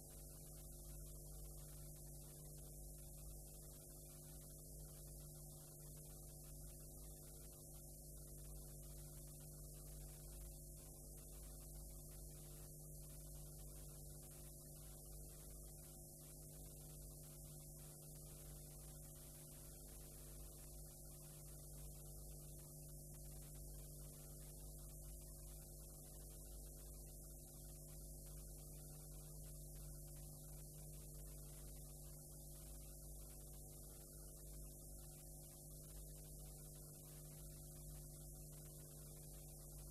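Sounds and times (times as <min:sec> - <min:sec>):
electrical mains hum: 0:00.0 - 0:39.9
faint videotape hiss: 0:00.0 - 0:39.9.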